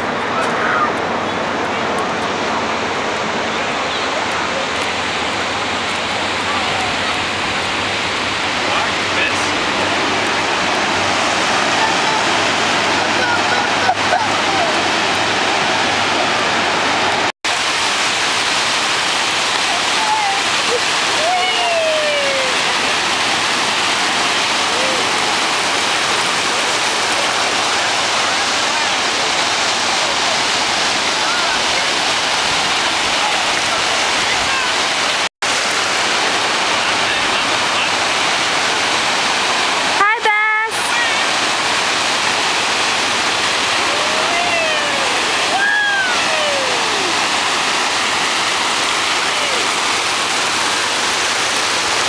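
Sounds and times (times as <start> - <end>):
surf breaking on a beach: 0.0 - 52.0.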